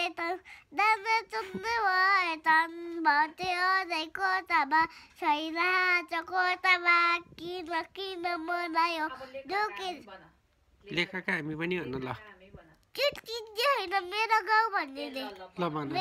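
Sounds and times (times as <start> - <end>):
child singing: 0.0 - 10.0, 12.9 - 16.0.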